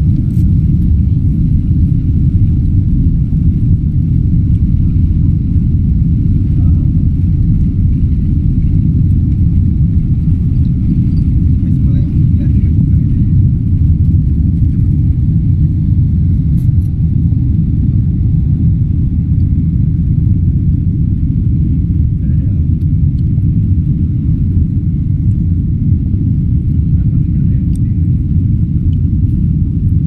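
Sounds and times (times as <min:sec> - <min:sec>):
airplane low rumble: 0:00.0 - 0:30.0.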